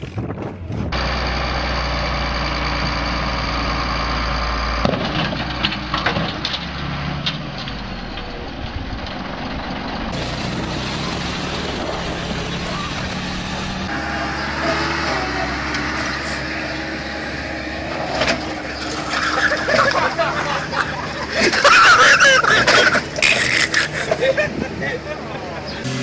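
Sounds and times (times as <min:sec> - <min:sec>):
tractor engine drone: 0:00.2 - 0:26.0
ride-on lawn tractor: 0:01.0 - 0:26.0.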